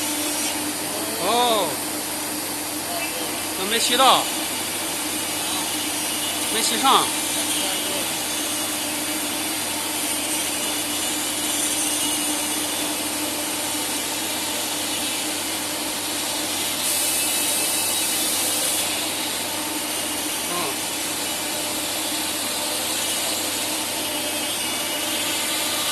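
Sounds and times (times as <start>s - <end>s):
wood router running: 0.0s - 25.9s.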